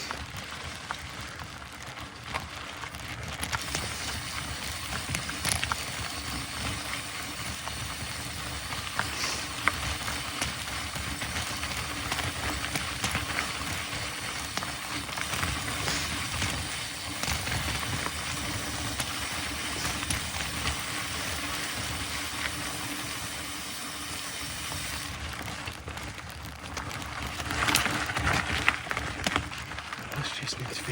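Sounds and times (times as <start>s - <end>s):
bike clicks and rattles: 0.0s - 30.9s
bike tyres rolling rush: 0.0s - 30.9s.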